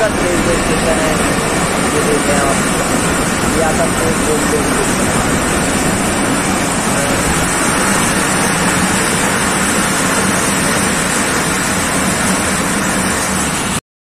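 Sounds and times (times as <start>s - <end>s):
wind on microphone: 0.0s - 13.4s
train wheels on rails: 0.0s - 13.8s.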